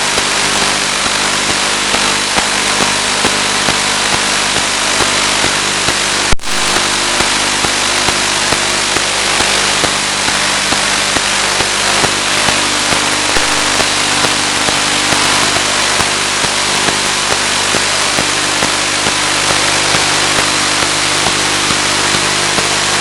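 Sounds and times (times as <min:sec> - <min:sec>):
crackles: 0:00.0 - 0:23.0
loud static hiss: 0:00.0 - 0:23.0
low steady hum: 0:00.0 - 0:23.0.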